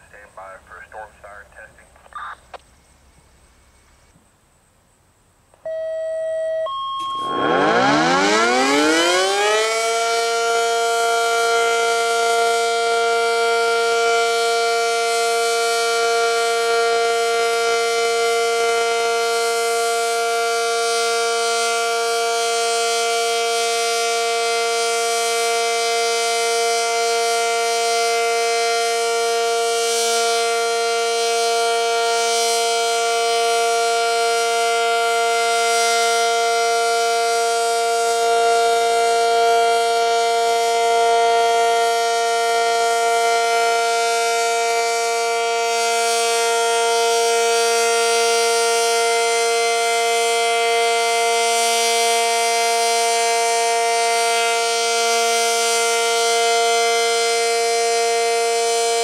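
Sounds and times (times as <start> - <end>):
warning siren steady tone: 5.6 - 59.0.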